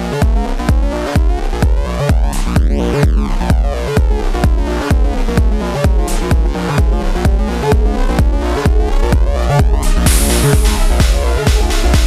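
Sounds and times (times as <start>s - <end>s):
electronic dance music: 0.0s - 12.0s
steady kick drum: 0.0s - 12.0s.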